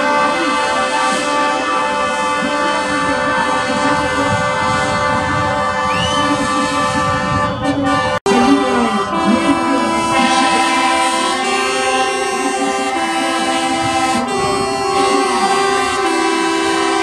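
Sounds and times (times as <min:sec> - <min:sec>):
truck air horns two-tone: 0:00.0 - 0:17.0.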